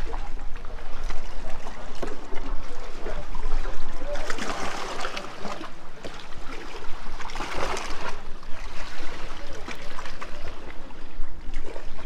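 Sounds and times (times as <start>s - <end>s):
water splashing around kayak: 0.0s - 12.0s.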